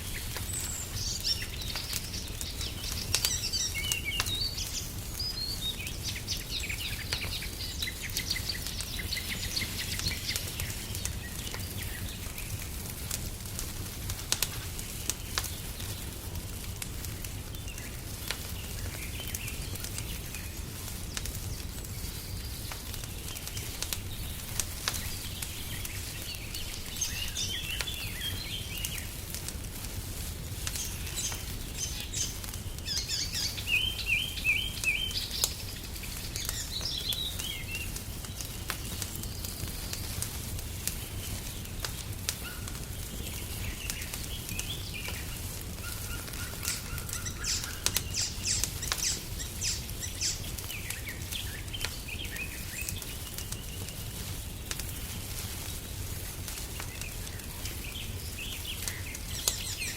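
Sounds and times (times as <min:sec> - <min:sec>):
fire low rumble: 0:00.0 - 0:59.9
small birds chirping: 0:00.0 - 0:59.9
wood fire crackling and popping: 0:00.0 - 0:59.9.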